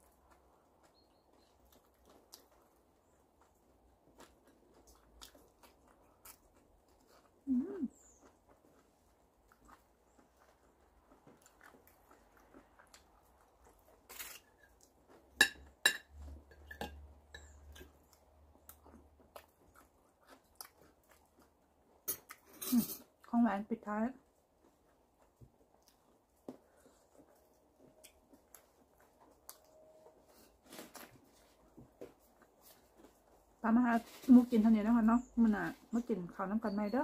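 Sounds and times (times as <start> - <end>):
quiet chewing: 0.0 - 36.9.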